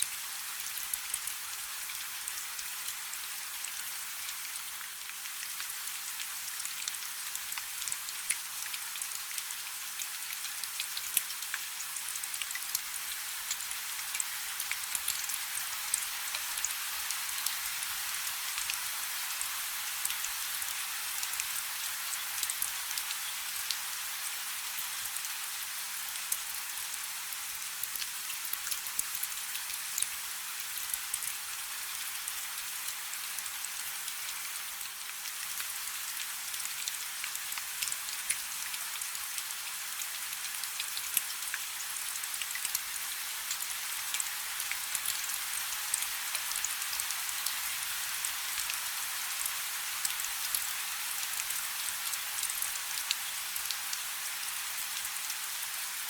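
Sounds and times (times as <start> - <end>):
rain falling on a river: 0.0 - 56.0.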